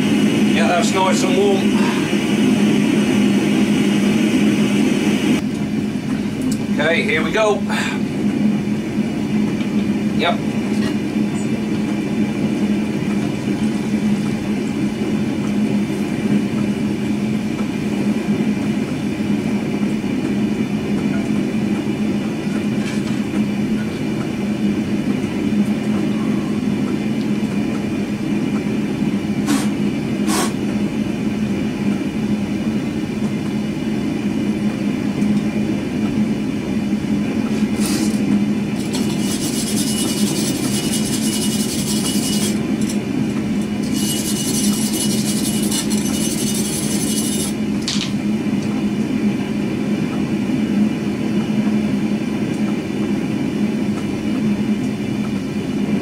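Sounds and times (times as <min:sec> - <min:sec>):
gas forge burner rushing: 0:00.0 - 0:49.2.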